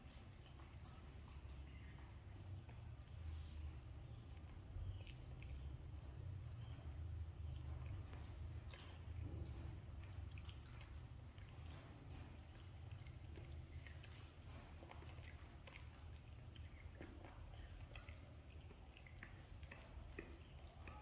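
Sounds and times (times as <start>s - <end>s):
monkey chewing wet clicks: 0.0s - 21.0s.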